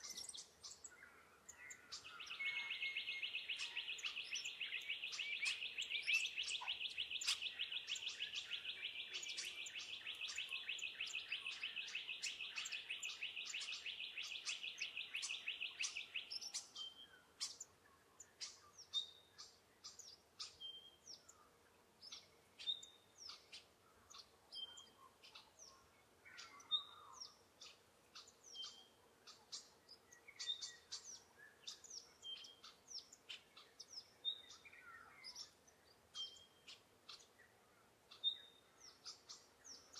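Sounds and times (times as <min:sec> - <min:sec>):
bird chirps and calls: 0:00.0 - 0:21.4, 0:22.0 - 0:39.9.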